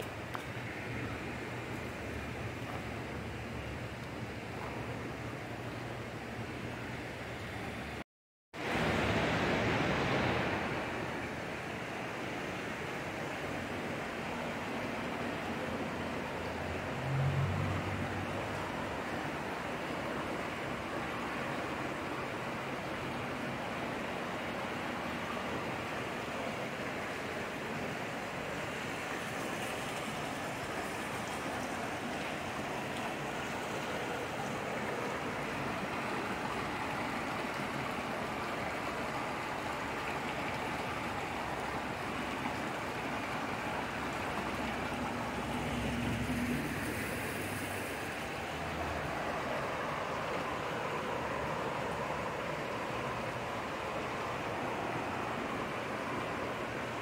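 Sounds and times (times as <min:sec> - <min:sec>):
creek rushing over rocks: 0:00.0 - 0:08.0, 0:08.6 - 0:57.0.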